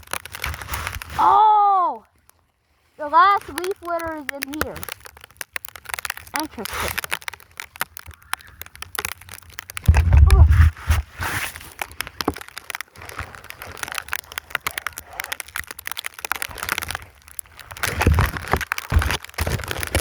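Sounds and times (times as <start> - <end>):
snow and leaves crunching: 0.0 - 20.0.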